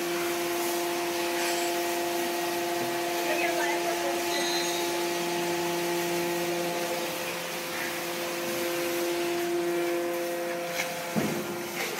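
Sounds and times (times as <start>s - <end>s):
baler machine humming: 0.0s - 11.9s.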